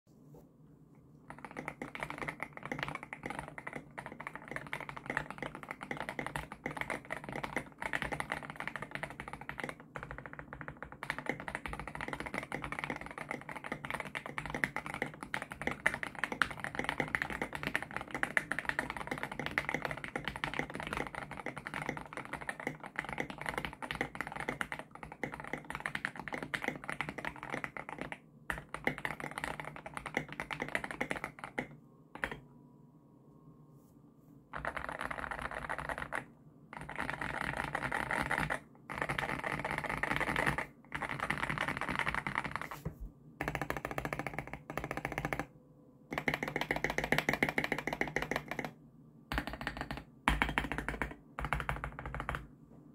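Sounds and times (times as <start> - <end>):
mechanical keyboard typing: 1.3 - 32.4, 34.5 - 42.8, 43.4 - 45.5, 46.1 - 52.5.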